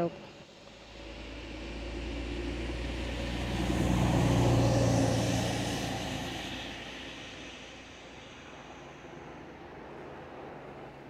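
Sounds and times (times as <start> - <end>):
vehicle driving past: 0.3 - 10.8.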